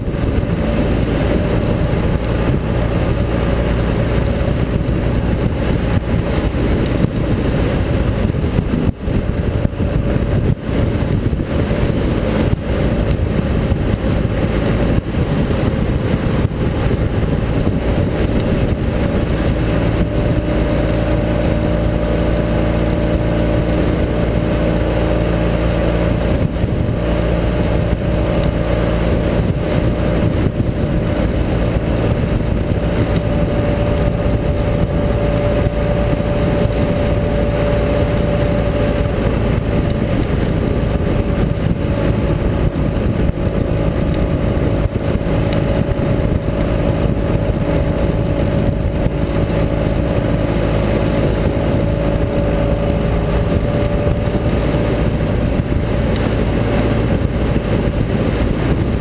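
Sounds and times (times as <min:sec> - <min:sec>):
motorcycle engine running: 0:00.0 - 0:59.0
road noise: 0:00.0 - 0:59.0
wind rush on microphone: 0:00.0 - 0:59.0.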